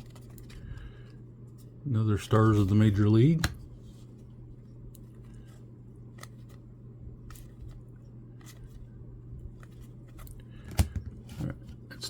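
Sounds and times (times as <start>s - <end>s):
cards clicking and scraping: 0.0s - 4.2s, 4.9s - 8.9s, 9.5s - 11.6s
low electrical hum: 0.0s - 12.0s.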